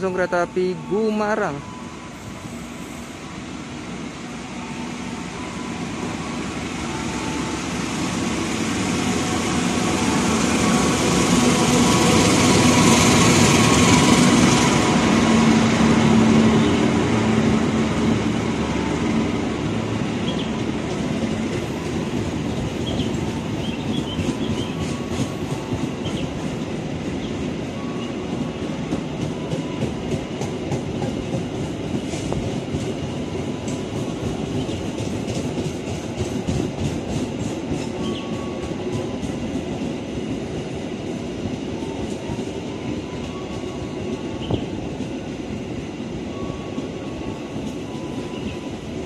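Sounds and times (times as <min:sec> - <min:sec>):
diesel locomotive engine: 0:00.0 - 0:49.0
clickety-clack of train wheels: 0:07.2 - 0:49.0.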